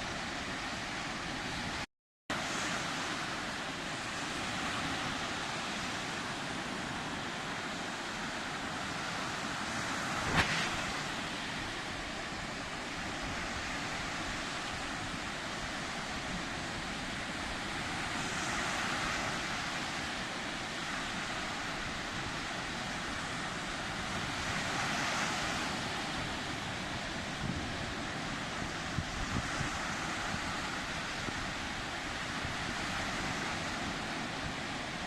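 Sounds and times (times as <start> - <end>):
sea waves washing: 0.0 - 35.0.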